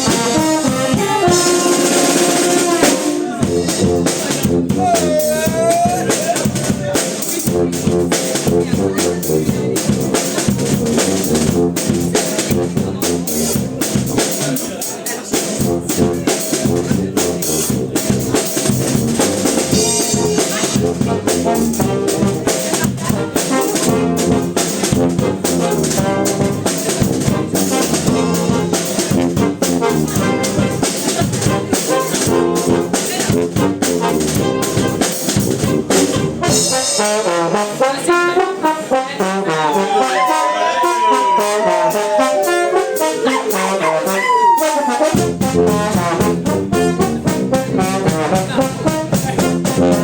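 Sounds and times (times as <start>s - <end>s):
busy drum beat: 0.0s - 50.0s
trombones and trumpets: 0.0s - 50.0s.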